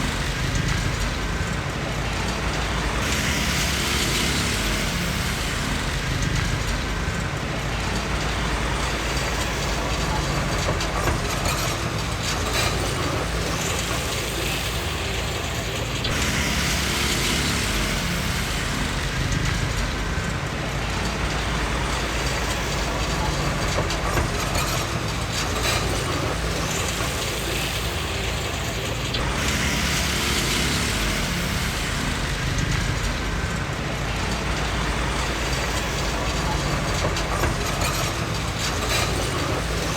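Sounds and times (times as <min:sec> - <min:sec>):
bulldozer diesel engine running: 0:00.0 - 0:39.9
steel tracks clanking and rattling: 0:00.0 - 0:39.9.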